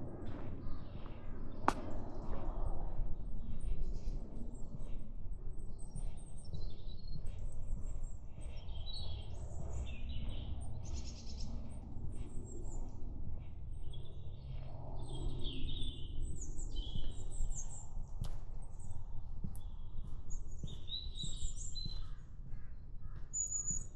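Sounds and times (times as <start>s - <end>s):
steady low rumble: 0.0s - 23.9s
songbirds calling and singing: 0.2s - 23.9s.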